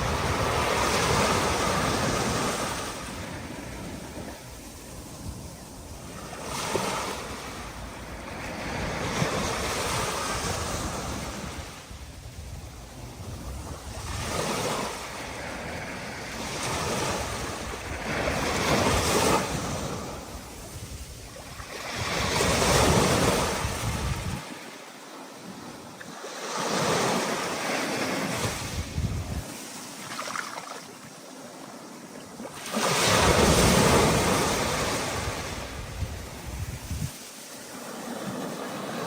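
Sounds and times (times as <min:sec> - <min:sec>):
wind on microphone: 0:00.0 - 0:24.6, 0:26.8 - 0:30.5, 0:32.8 - 0:39.0
waves surging and breaking: 0:00.0 - 0:39.0.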